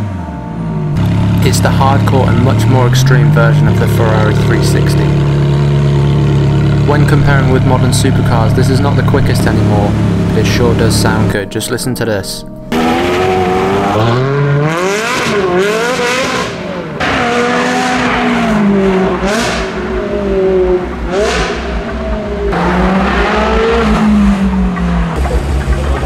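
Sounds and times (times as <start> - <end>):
car engine revving: 0.0 - 11.5, 12.6 - 26.0.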